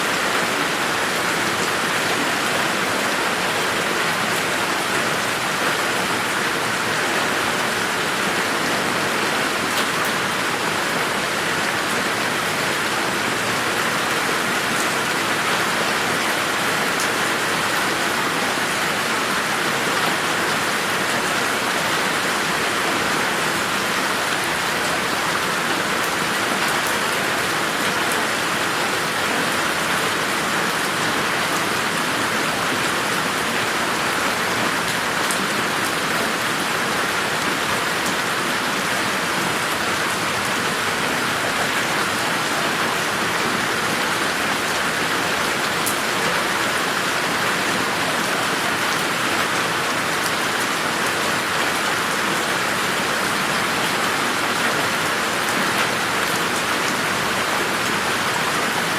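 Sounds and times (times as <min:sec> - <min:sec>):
steady rain on plants: 0:00.0 - 0:58.9.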